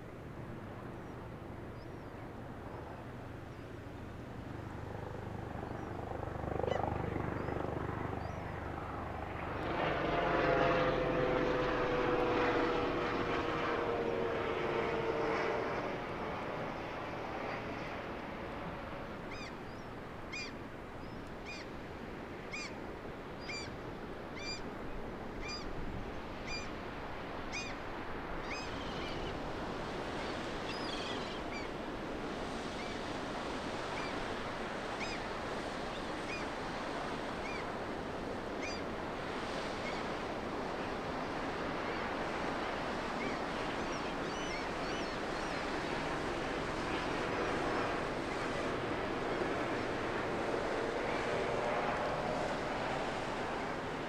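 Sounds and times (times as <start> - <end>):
engine drone passing by: 0.2 - 21.6, 23.4 - 54.0.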